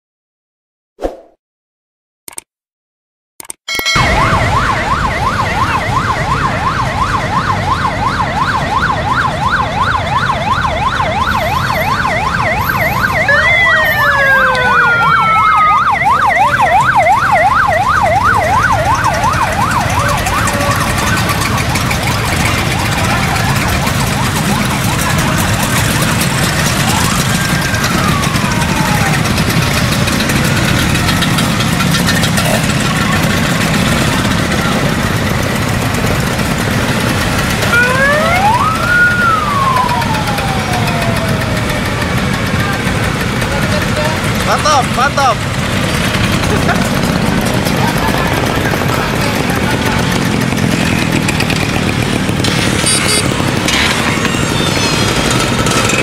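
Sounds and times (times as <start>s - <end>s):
siren wailing downward: 3.7s - 31.0s, 37.0s - 51.6s, 52.2s - 56.0s
motorcycle siren warbling: 3.8s - 56.0s
scooter engines running: 3.9s - 56.0s.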